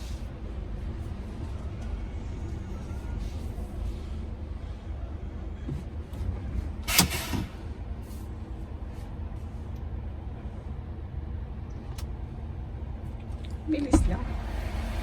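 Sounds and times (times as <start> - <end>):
truck rumbling: 0.0 - 15.0.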